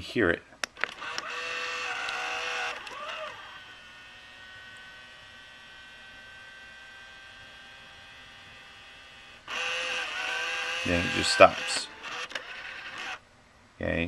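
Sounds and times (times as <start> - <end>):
camcorder tape mechanism whining hum: 0.7 - 13.2.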